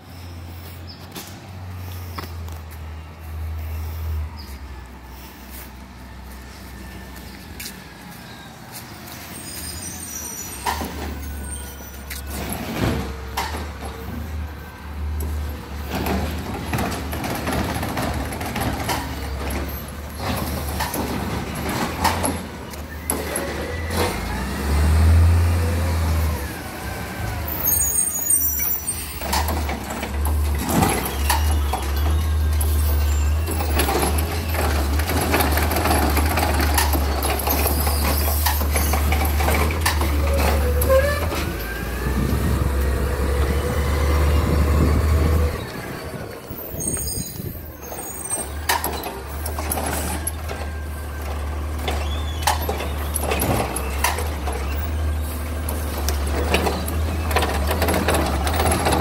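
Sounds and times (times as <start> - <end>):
heavy truck engine running: 0.0 - 59.0.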